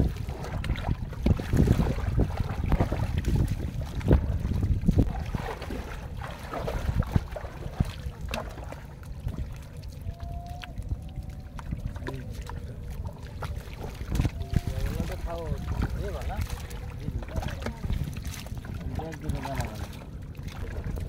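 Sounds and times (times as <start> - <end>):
small splashes: 0.0 - 21.0
water sloshing in fishing net: 0.0 - 21.0
wind rumble on microphone: 0.0 - 21.0.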